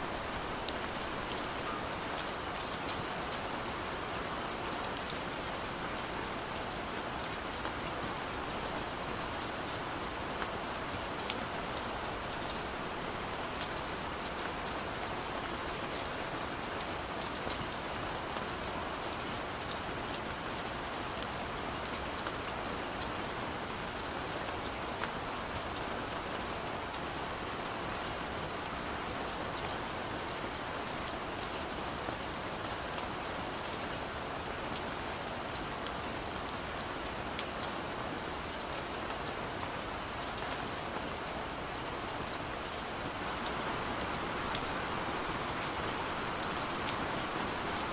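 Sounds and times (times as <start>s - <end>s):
gentle rain hiss: 0.0s - 47.9s.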